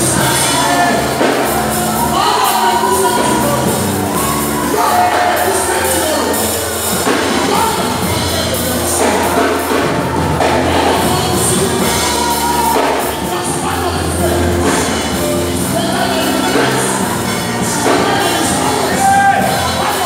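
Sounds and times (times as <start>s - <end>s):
band with drums and cymbals: 0.0s - 20.0s
choir singing: 0.0s - 20.0s
lead singer on microphone: 0.0s - 20.0s.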